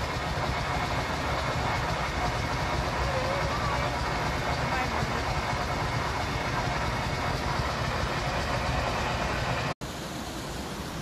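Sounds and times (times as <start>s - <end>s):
geyser jetting steam: 0.0s - 11.0s.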